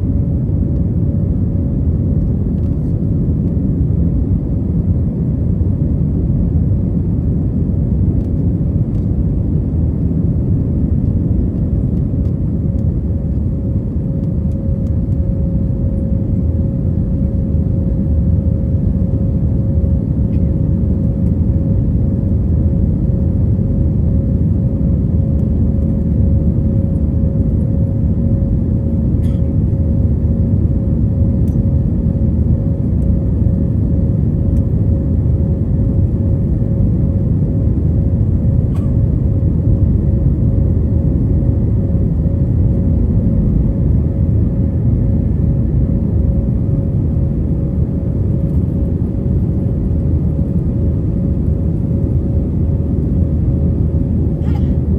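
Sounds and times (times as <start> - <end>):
constant steady hum: 0.0 - 54.9
jet airliner cabin rumble: 0.0 - 54.9.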